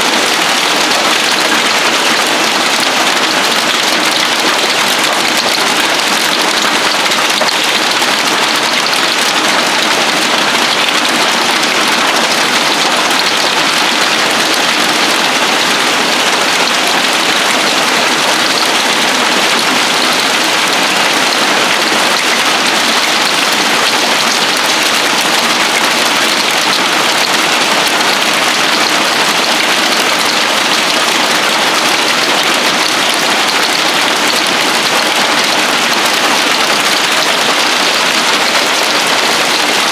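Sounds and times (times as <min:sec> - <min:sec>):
hail falling on a roof: 0:00.0 - 0:39.9.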